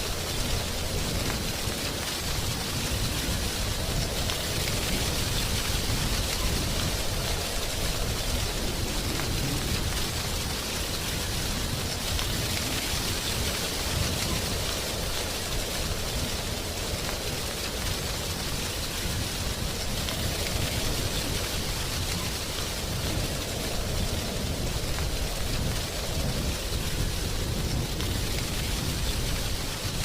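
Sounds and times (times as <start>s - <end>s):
low wind rumble: 0.0s - 30.0s
wind rustling leaves: 0.0s - 30.0s.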